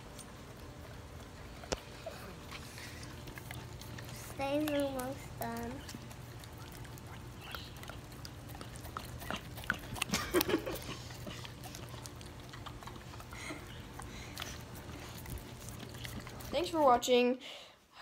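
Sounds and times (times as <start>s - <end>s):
dog licking and smacking mouth: 0.0s - 17.2s.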